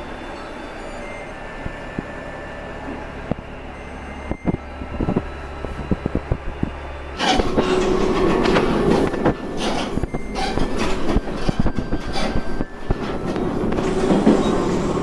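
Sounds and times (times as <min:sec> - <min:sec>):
railcar engine running: 0:00.0 - 0:15.0
wheels clattering on rails: 0:02.8 - 0:15.0.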